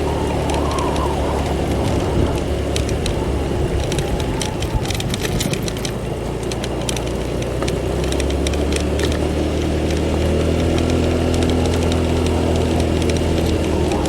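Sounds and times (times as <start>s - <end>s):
motorbike engine running: 0.0s - 14.0s
tyres crackling over gravel: 0.0s - 14.0s.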